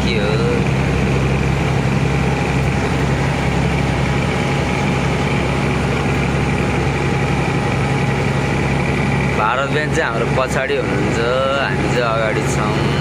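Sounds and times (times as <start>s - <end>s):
truck engine under load: 0.0s - 13.0s.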